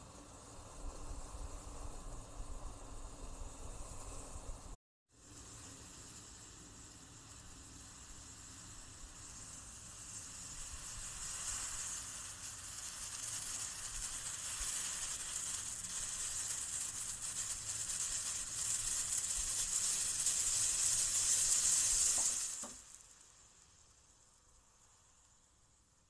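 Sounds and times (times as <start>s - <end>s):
coffee pot sizzling hiss: 0.0s - 26.0s.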